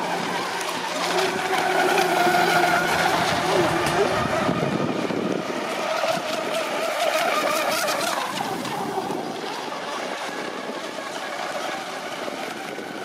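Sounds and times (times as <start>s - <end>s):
model boat motors whining: 0.0s - 13.0s.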